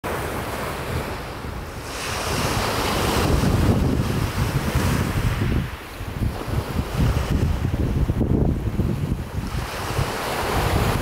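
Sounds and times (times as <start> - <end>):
sea waves washing onto shore: 0.1 - 11.0
wind buffeting microphone: 0.1 - 11.0.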